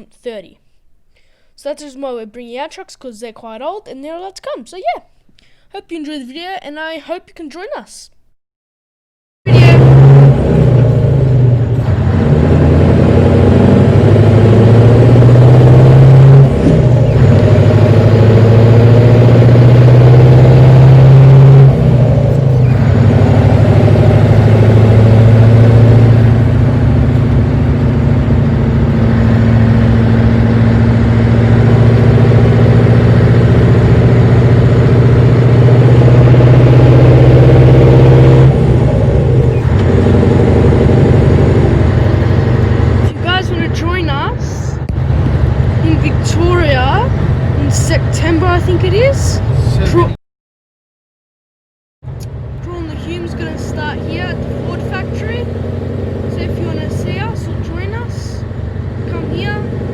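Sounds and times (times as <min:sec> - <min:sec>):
diesel truck engine shifting gears: 0:09.5 - 0:50.2, 0:52.1 - 0:59.9.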